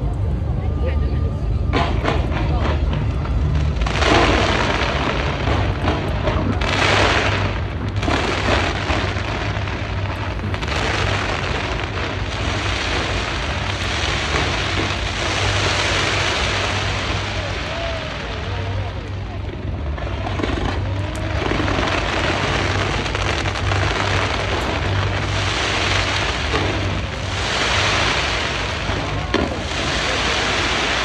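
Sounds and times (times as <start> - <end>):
fireworks booming and crackling: 0.0 - 31.0.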